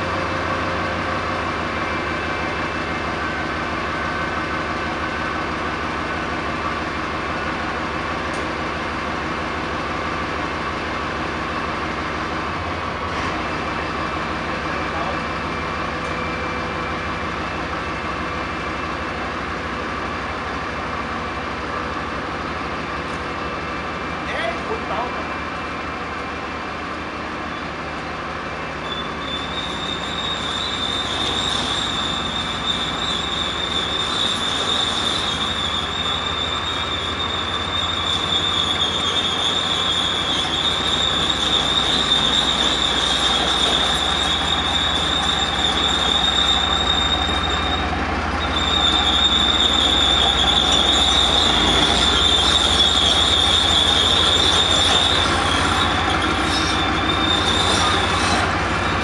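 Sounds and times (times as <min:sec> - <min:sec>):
steel tracks rolling: 0:00.0 - 0:59.0
tank diesel engine running: 0:00.0 - 0:59.0.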